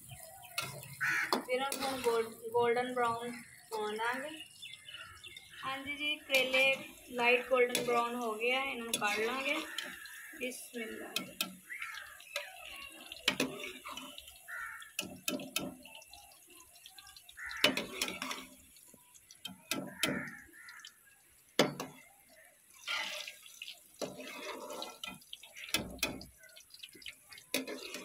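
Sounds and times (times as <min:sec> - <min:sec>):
vegetable slices sizzling in oil: 0:00.0 - 0:21.0, 0:21.6 - 0:28.0.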